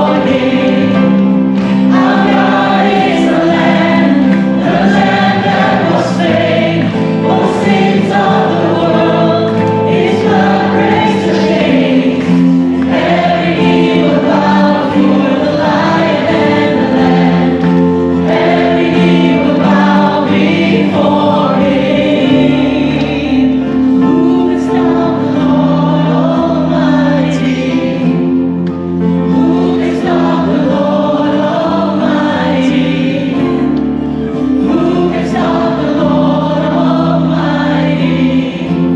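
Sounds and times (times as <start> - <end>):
choir singing worship music: 0.0 - 38.9
sustained accompanying chords: 0.0 - 38.9.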